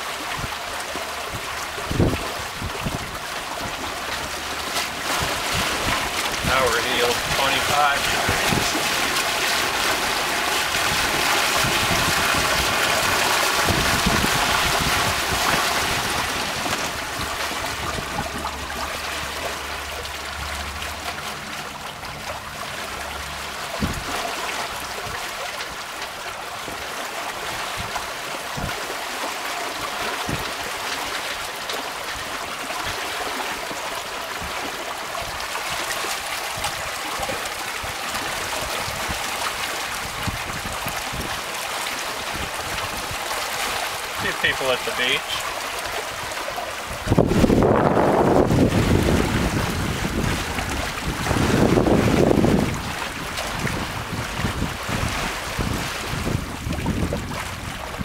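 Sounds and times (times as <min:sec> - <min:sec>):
water rushing along boat hull: 0:00.0 - 0:58.0.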